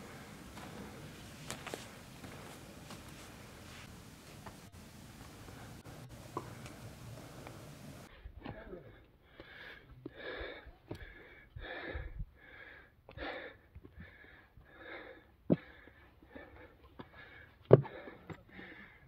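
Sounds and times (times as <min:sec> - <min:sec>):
person breathing hard: 0:00.0 - 0:03.9, 0:04.6 - 0:08.1, 0:08.7 - 0:19.0.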